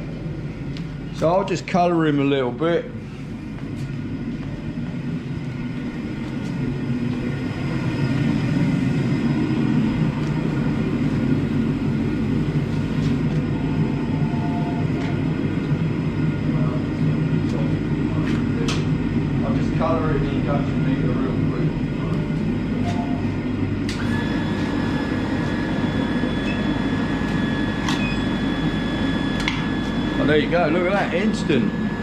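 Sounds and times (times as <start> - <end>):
induction heater humming: 0.0 - 32.0.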